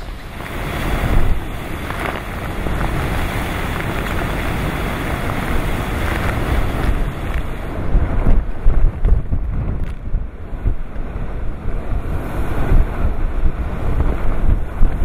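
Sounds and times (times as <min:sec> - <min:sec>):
waves: 0:00.0 - 0:15.0
wind buffeting microphone: 0:00.0 - 0:15.0
wind rushing: 0:00.0 - 0:15.0.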